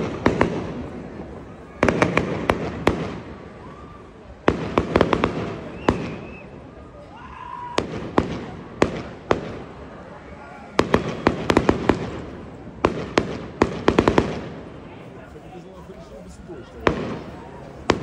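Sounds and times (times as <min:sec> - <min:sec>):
fireworks bursting: 0:00.0 - 0:03.6, 0:04.3 - 0:06.7, 0:07.7 - 0:10.0, 0:10.6 - 0:15.2, 0:15.8 - 0:18.0.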